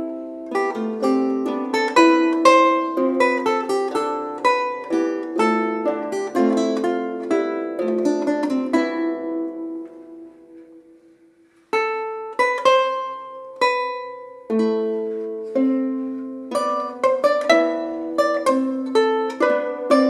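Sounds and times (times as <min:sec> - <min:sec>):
lute and harps plucking: 0:00.0 - 0:20.0.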